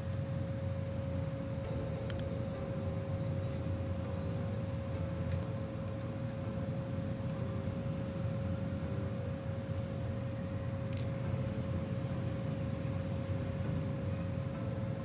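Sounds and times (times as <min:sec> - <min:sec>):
electrical hum with thin tone: 0:00.0 - 0:15.0.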